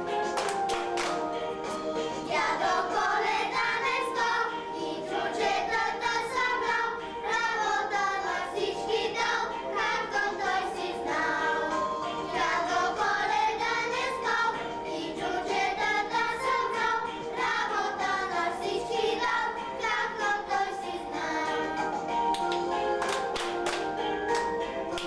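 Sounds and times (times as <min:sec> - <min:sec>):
children singing: 0:02.0 - 0:22.3.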